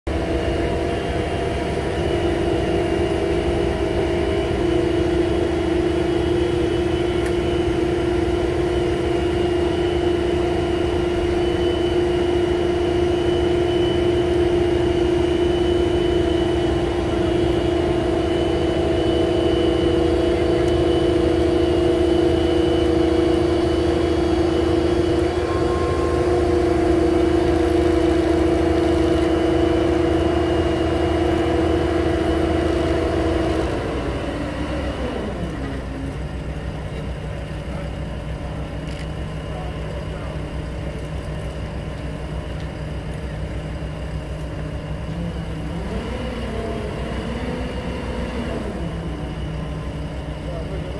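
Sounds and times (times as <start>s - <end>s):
diesel engine running with whine: 0.1s - 50.9s.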